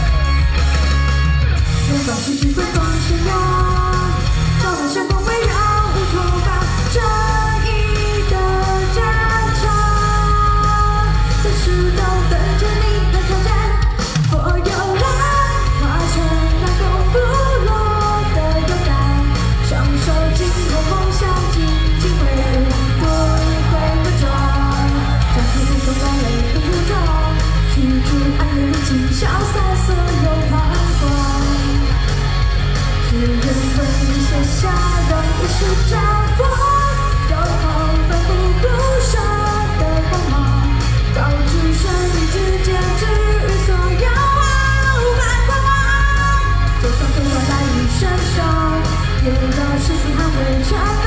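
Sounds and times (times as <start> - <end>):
loud backing music with beat: 0.0 - 51.0
woman singing into microphone: 1.8 - 32.1, 32.9 - 51.0.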